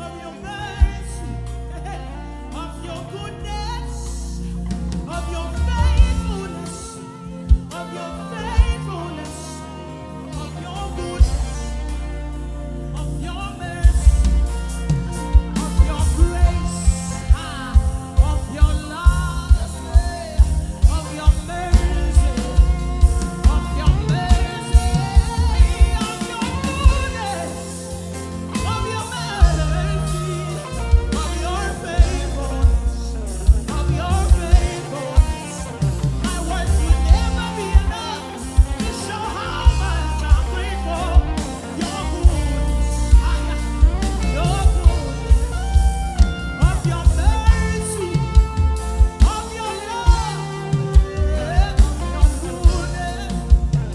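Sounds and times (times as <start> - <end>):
worship band playing: 0.0 - 53.9
drum kit beat: 4.6 - 9.4, 10.7 - 12.4, 13.0 - 53.9.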